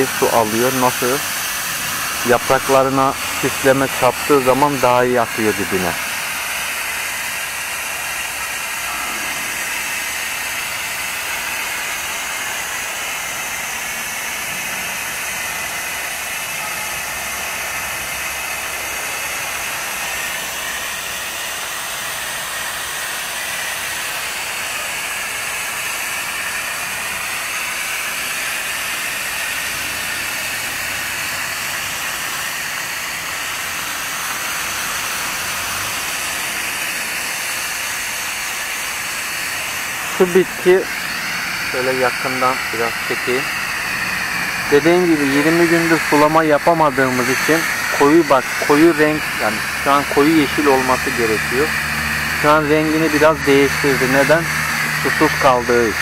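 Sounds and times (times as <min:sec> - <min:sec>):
spray nozzle hissing: 0:00.0 - 0:56.0.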